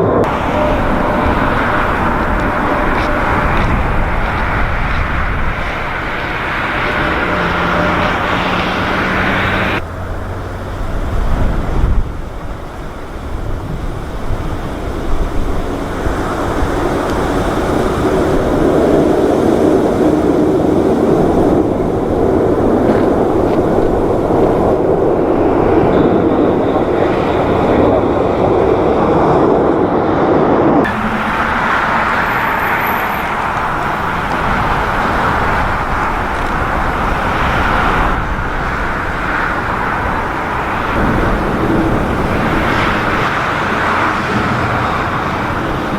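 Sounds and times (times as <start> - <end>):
jet engines roaring: 0.0 - 45.9
wind buffeting microphone: 0.0 - 45.9.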